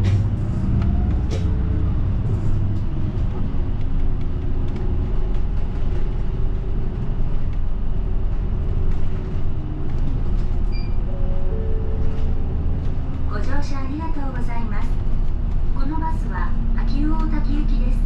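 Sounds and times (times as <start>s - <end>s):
bus engine and road noise: 0.0s - 18.0s.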